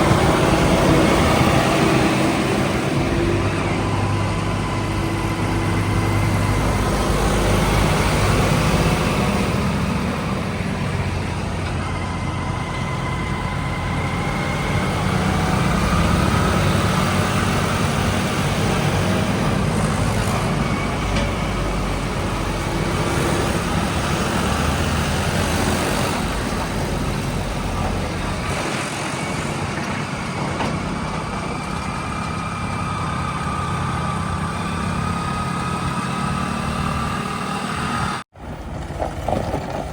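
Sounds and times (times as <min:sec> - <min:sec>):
heavy diesel engines rumbling: 0:00.0 - 0:39.9.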